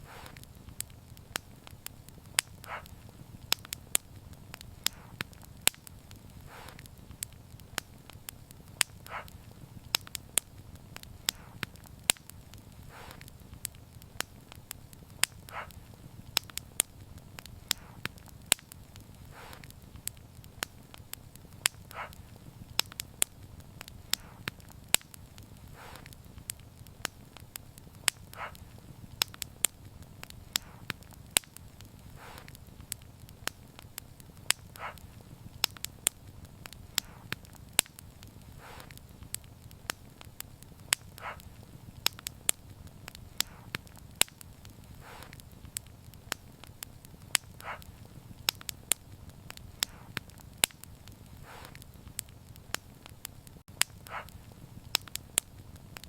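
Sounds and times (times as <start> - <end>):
soft hiss: 0.0 - 47.2
wood fire crackling: 0.0 - 56.0.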